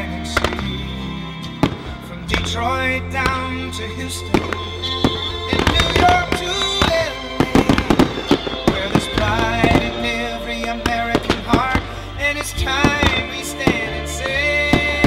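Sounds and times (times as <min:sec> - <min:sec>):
music with held chords: 0:00.0 - 0:15.0.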